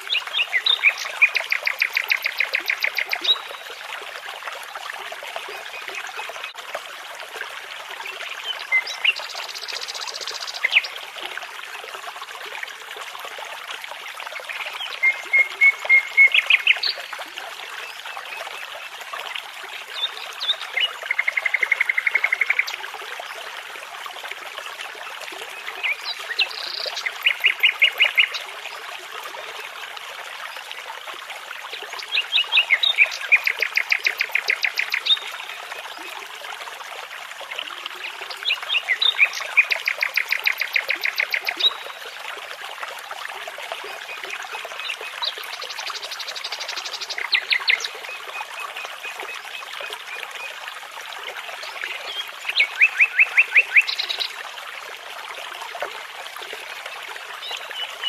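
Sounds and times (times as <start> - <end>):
babbling brook: 0.0 - 58.0.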